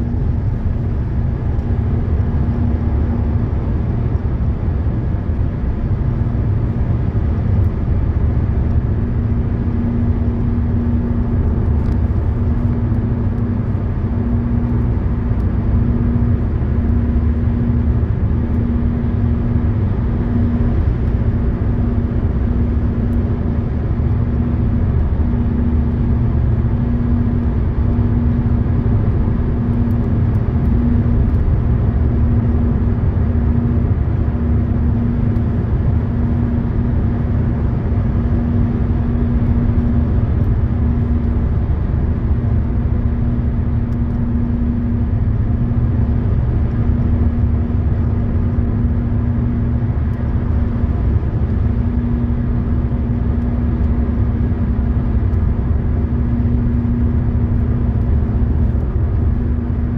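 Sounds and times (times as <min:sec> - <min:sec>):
droning hum: 0:00.0 - 0:59.9
road and tyre noise in car: 0:00.0 - 0:59.9.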